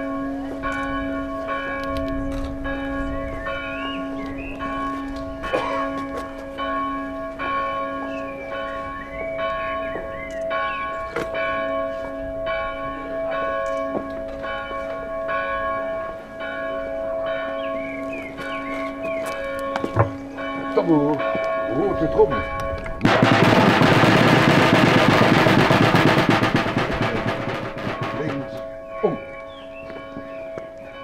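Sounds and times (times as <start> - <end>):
church bell tolling: 0.0 - 31.0.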